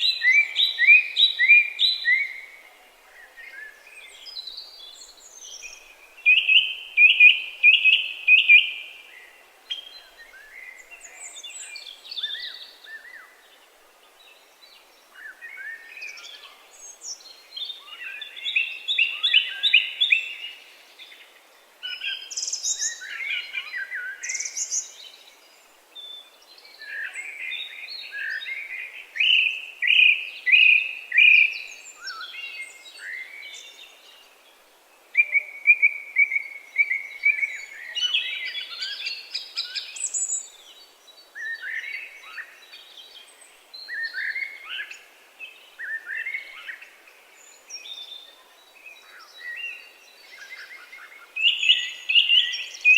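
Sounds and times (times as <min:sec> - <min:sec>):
birds chirping song: 0:00.0 - 0:52.9.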